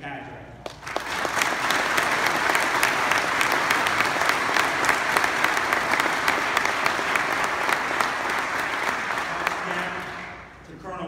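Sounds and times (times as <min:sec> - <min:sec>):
sharp close claps: 0:00.6 - 0:10.5
crowd applauding: 0:00.7 - 0:10.5.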